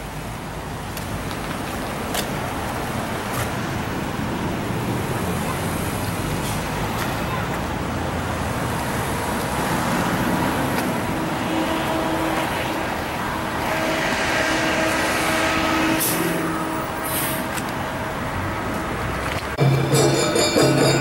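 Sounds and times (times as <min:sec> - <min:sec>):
heavy vehicle engine hum: 0:00.0 - 0:21.0
street noise: 0:00.0 - 0:21.0.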